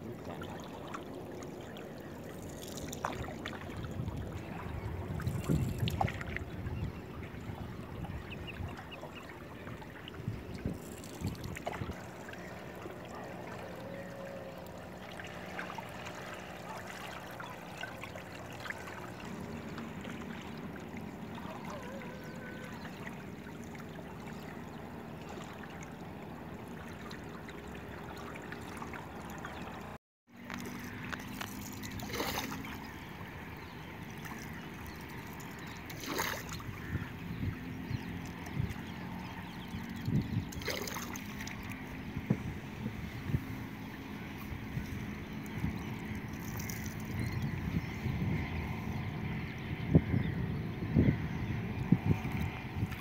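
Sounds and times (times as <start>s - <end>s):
sharp water splashes: 0.0s - 6.6s, 7.4s - 42.4s, 43.7s - 47.4s
water lapping against boat hull: 0.0s - 53.0s.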